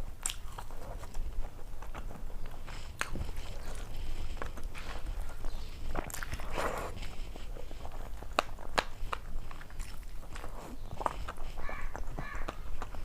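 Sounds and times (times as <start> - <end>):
chewing and crunching crisp food: 0.0 - 13.0.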